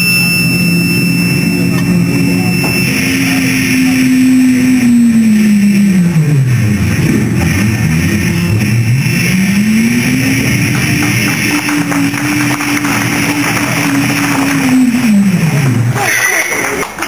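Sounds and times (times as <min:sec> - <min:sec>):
voices imitating engine revving: 0:01.4 - 0:17.0.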